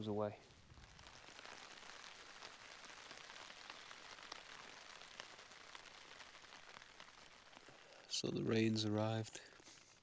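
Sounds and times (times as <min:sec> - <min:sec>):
light rain drops ticking: 0:00.0 - 0:10.0.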